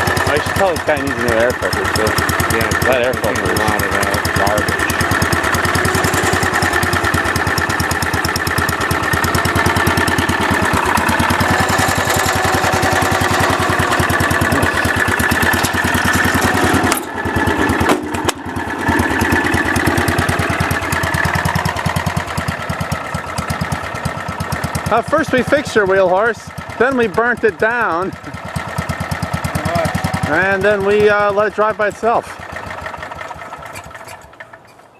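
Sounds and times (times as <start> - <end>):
single-cylinder engine running: 0.0 - 34.9.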